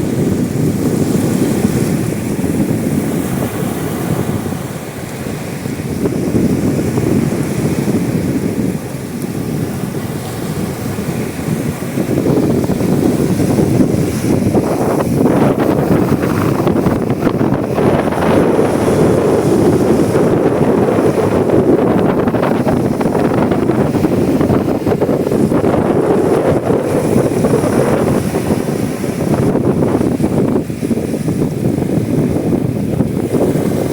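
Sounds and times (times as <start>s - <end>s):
sea waves: 0.0s - 33.9s
wind buffeting the microphone: 0.0s - 33.9s.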